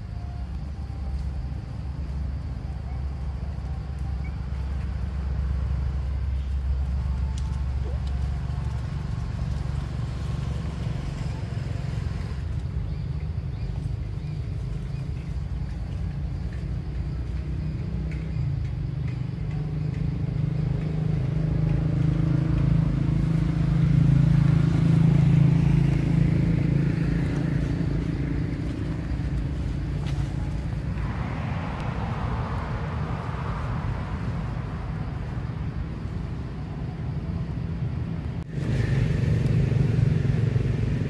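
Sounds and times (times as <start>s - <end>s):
vehicle engine humming: 0.0s - 41.0s.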